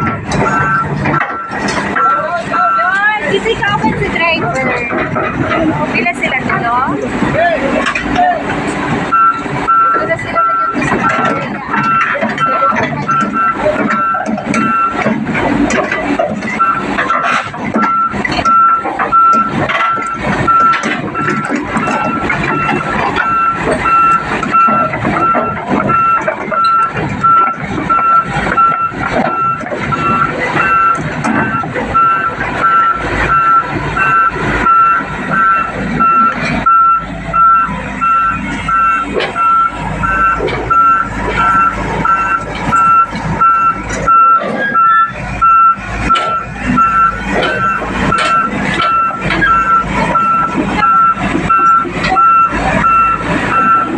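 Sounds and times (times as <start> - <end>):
diesel engine running: 0.0 - 53.9
excavator travel alarm beeping: 0.0 - 53.9
metal knocks and clanks: 0.0 - 53.9.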